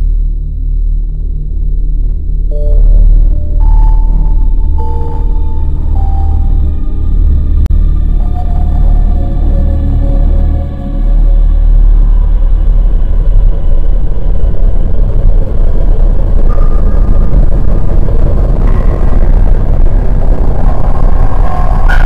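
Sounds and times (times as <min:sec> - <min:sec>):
vehicle engine rumble: 0:00.0 - 0:22.0
road and wind noise: 0:03.0 - 0:22.0.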